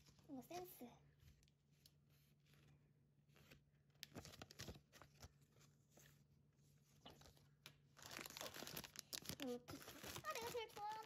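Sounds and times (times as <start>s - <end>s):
paper cards rustling: 0.0s - 6.3s, 6.9s - 11.0s.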